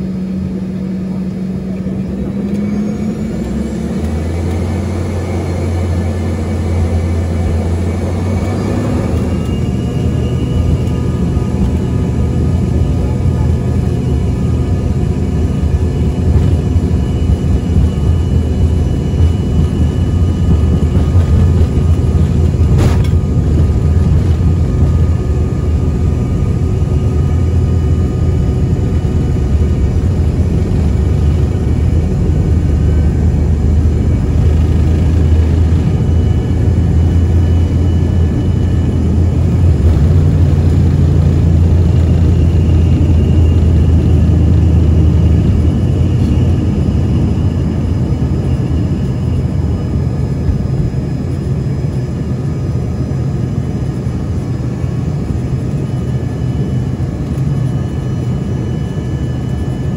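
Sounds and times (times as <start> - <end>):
jet engines roaring in cabin: 0.0 - 59.9.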